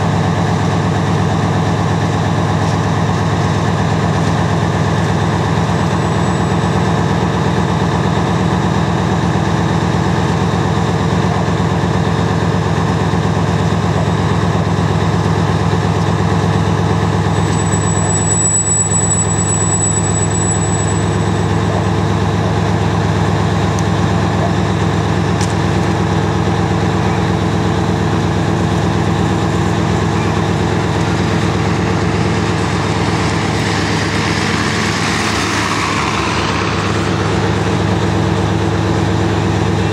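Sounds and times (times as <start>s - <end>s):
locomotive diesel engine under load: 0.0s - 39.9s.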